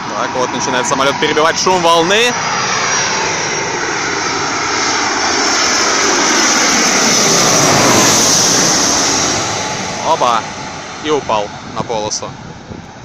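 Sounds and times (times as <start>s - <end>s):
airplane engine passing overhead: 0.0s - 13.0s.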